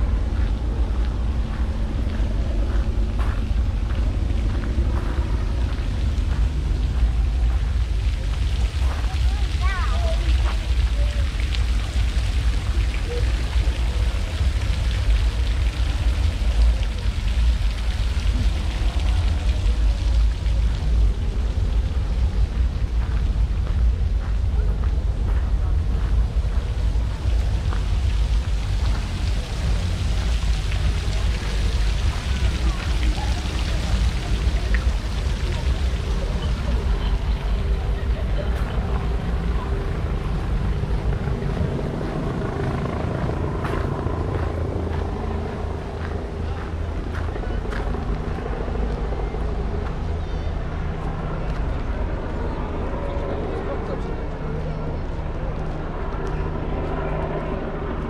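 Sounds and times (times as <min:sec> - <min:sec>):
city street noise hiss: 0:00.0 - 0:58.0
low engine rumble: 0:00.0 - 0:58.0.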